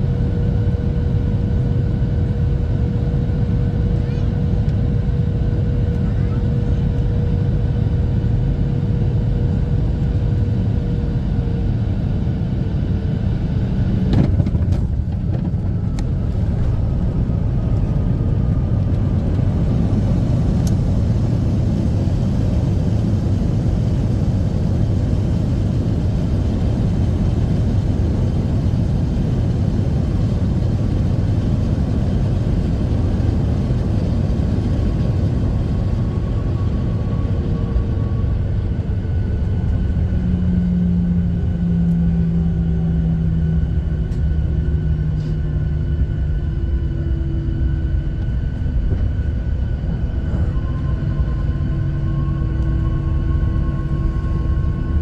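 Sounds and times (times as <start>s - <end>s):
aircraft cabin rumble: 0.0s - 55.0s.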